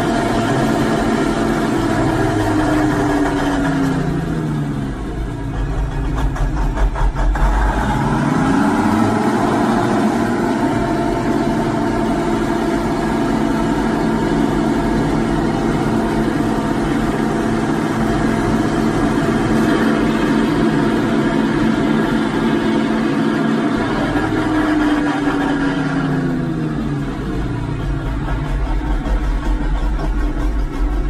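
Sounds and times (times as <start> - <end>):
bulldozer diesel engine revving: 0.0 - 31.0.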